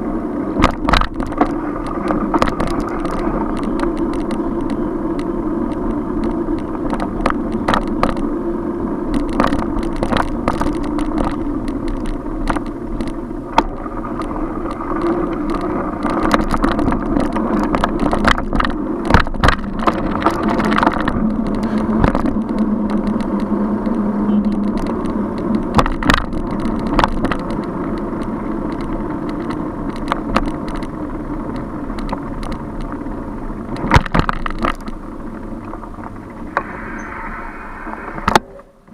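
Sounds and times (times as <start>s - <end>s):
steady low drone: 0.0s - 27.7s, 34.9s - 38.9s
bike knocking and rattling: 0.0s - 37.2s
road and traffic noise: 0.0s - 38.9s.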